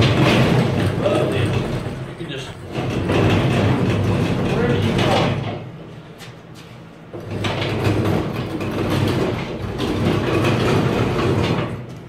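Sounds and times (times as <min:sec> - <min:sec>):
light rattling clatter: 0:00.0 - 0:05.9, 0:06.6 - 0:12.0
casters rumbling on concrete: 0:00.0 - 0:12.0.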